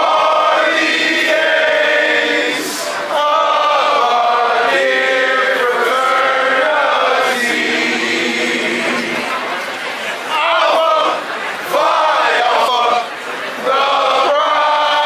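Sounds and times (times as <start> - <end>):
men's choir singing: 0.0 - 9.3, 10.3 - 15.0.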